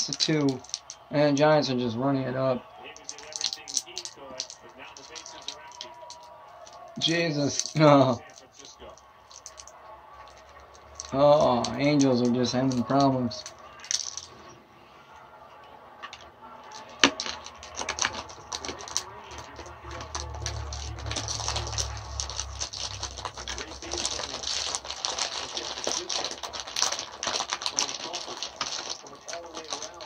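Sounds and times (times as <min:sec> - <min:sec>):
irregular clicking and crackling: 0:00.0 - 0:01.1, 0:02.7 - 0:14.5, 0:15.6 - 0:30.0.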